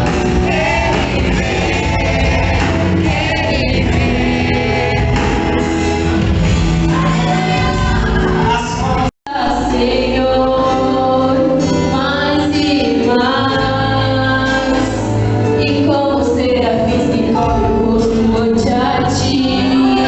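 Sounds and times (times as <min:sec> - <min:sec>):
gospel music with singing: 0:00.0 - 0:20.0.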